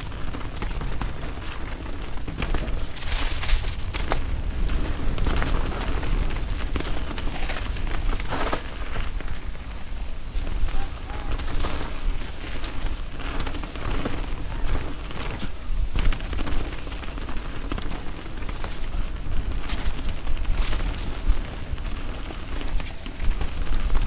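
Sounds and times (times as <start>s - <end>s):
bike clicking and rattling: 0.0s - 24.0s
bike tyres on dirt: 0.0s - 24.0s
wind rumbling on microphone: 0.0s - 24.0s.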